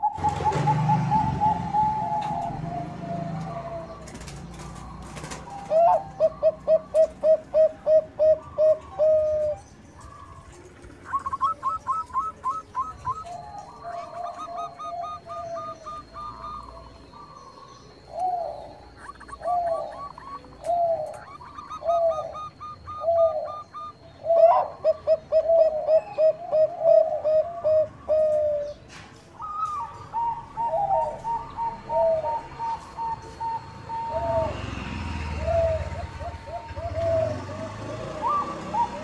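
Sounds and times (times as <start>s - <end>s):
doves cooing: 0.0s - 39.0s
higher-pitched dove calling: 0.0s - 39.0s.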